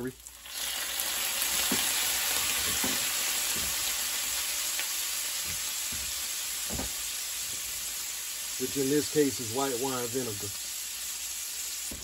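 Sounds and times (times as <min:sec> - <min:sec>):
mushrooms sizzling in a skillet: 0:00.0 - 0:12.0.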